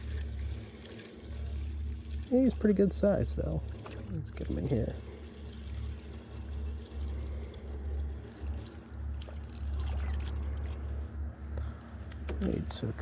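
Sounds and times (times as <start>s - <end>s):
fishing reel ticking: 0.0s - 10.7s.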